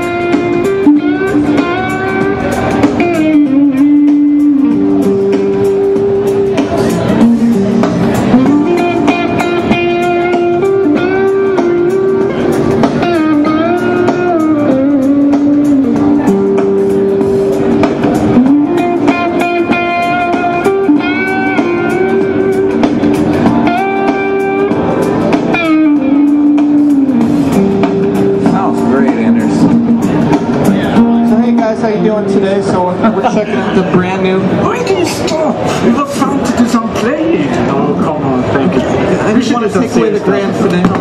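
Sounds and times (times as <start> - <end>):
electric guitar with string bends: 0.0 - 41.0.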